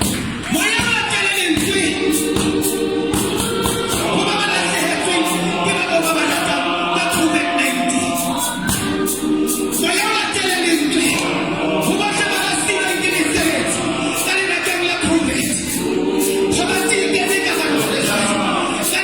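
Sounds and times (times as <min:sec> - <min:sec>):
choir singing a hymn in harmony: 0:00.0 - 0:19.0
regular percussive beat: 0:00.0 - 0:19.0.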